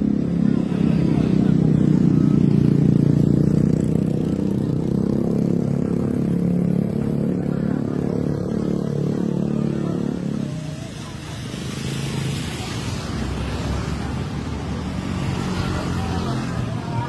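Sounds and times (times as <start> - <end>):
dense traffic noise: 0.0 - 17.0
motorcycle engines running: 0.0 - 17.0.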